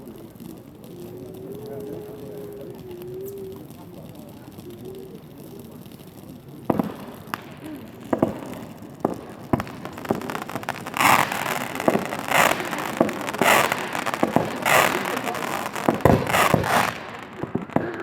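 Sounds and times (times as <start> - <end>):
dense firework crackling: 0.0 - 18.0
firework shells bursting: 0.0 - 18.0.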